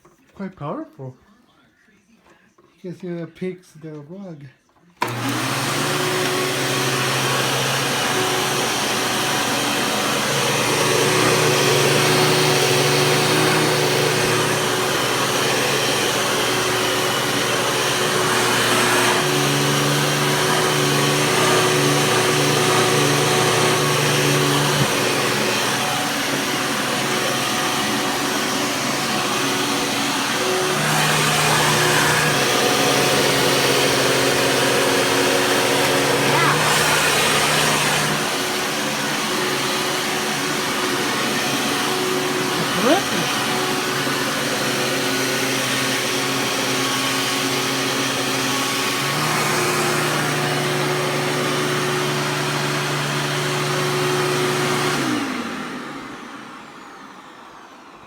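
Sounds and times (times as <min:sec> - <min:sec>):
vacuum cleaner running: 0:05.0 - 0:58.0.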